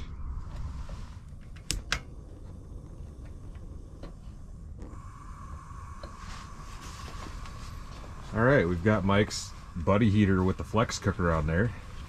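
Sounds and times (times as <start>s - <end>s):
low steady rumble: 0.0s - 12.0s
steady higher hum: 0.0s - 12.0s.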